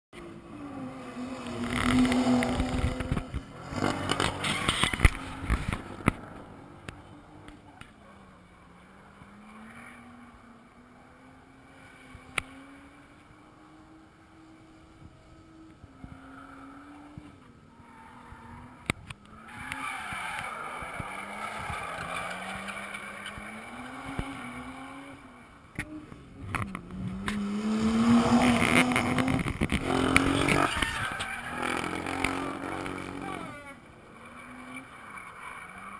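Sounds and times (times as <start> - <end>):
car engine revving: 0.2 - 35.9.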